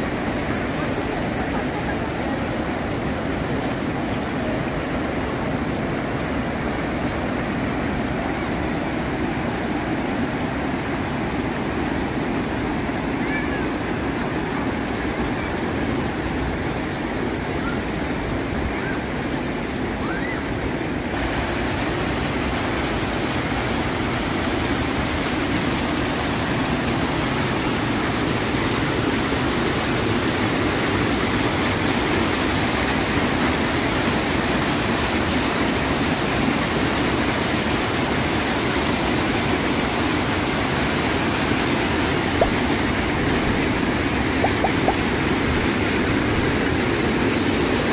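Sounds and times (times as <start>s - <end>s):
water rushing over spillway: 0.0s - 47.9s.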